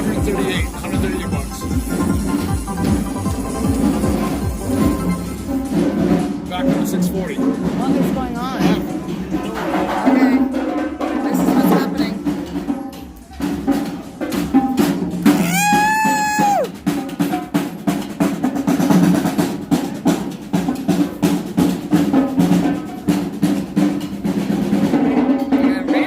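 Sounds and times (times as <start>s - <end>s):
rapid dense drumming: 0.0s - 26.0s.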